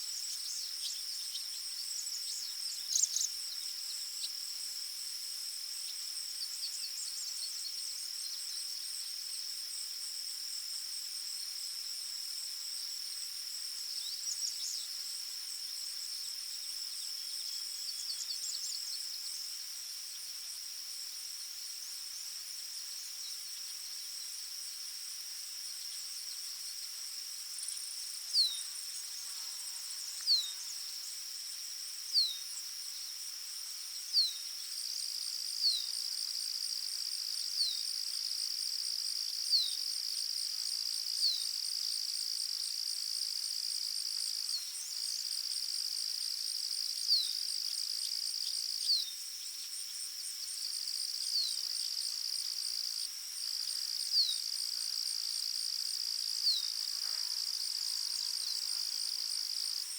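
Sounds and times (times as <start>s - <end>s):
insect pulsing buzz: 0.0s - 59.9s
insects trilling: 0.0s - 59.9s.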